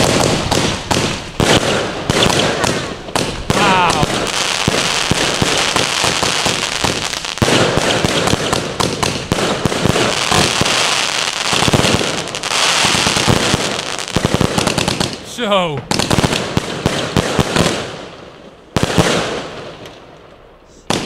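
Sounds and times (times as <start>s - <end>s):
firework cake firing shots: 0.0s - 15.2s, 15.9s - 18.0s, 18.8s - 19.6s
firework bursts: 0.0s - 20.1s.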